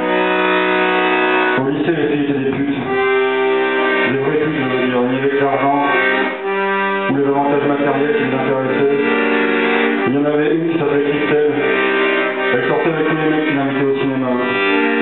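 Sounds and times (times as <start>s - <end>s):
accordion playing chords: 0.0s - 15.0s.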